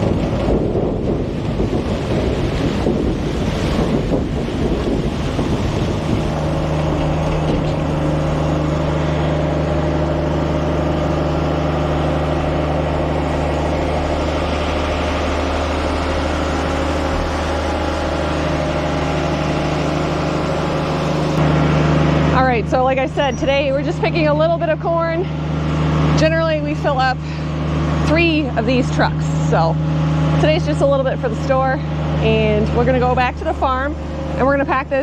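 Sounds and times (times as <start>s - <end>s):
large engine humming: 0.0s - 35.0s
wind: 0.0s - 35.0s.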